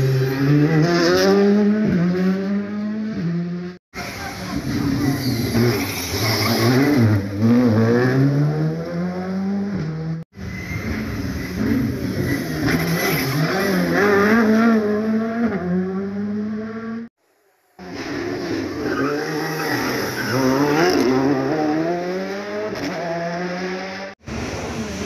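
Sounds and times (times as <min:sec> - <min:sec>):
rally car engines revving: 0:00.0 - 0:17.1, 0:17.8 - 0:25.0.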